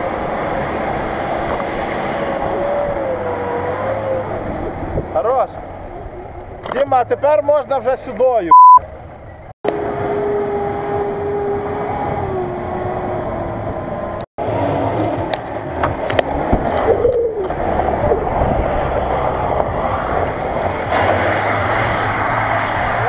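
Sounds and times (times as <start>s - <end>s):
off-road engines running: 0.0s - 23.0s.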